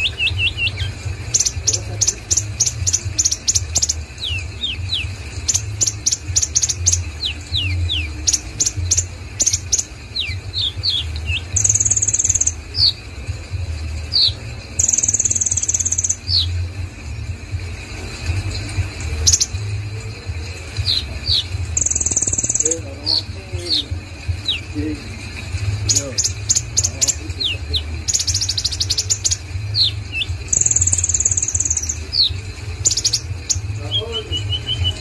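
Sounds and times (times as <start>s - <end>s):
bird singing high ticking notes: 0.0s - 35.0s
high buzzy bird trills: 0.0s - 35.0s
steady low hum: 0.0s - 35.0s.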